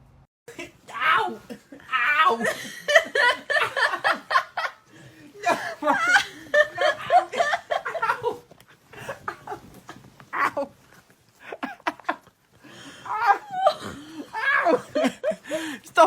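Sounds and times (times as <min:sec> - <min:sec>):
person laughing: 0:00.5 - 0:10.8, 0:11.4 - 0:12.3, 0:13.1 - 0:15.8.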